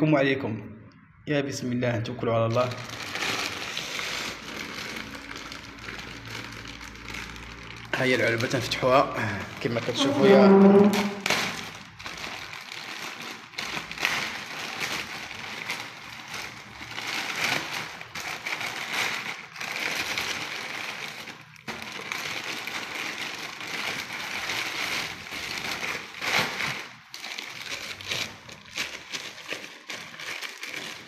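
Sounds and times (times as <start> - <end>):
plastic mailer bag crinkling: 2.4 - 31.0.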